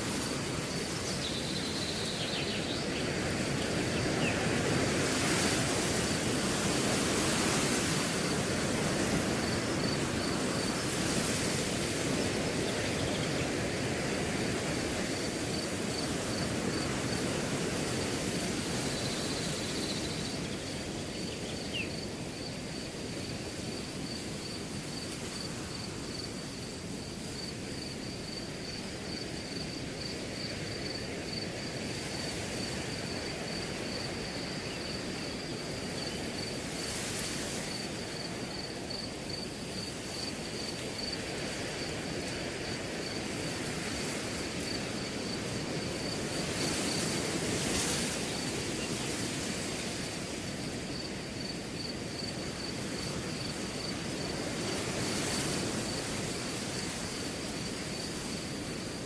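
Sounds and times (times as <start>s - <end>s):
cricket trilling: 0.0s - 59.0s
wind rustling grass: 0.0s - 59.0s.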